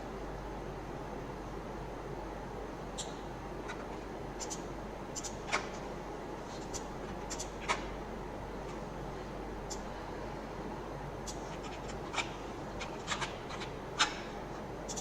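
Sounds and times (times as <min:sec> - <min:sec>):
mains hum: 0:00.0 - 0:15.0.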